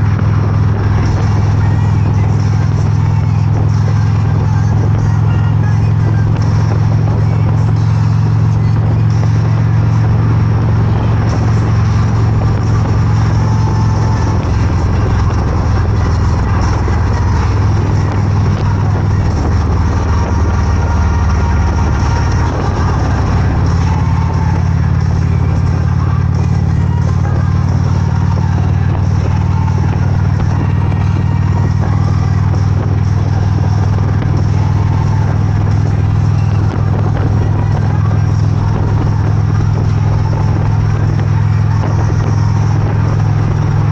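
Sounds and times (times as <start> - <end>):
motorcycle engine running: 0.0 - 43.9
rush of noise: 0.0 - 43.9.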